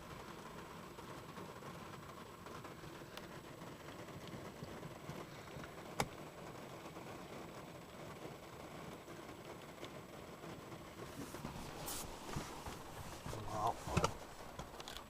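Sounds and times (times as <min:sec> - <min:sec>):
heavy rain on a truck: 0:00.0 - 0:15.0.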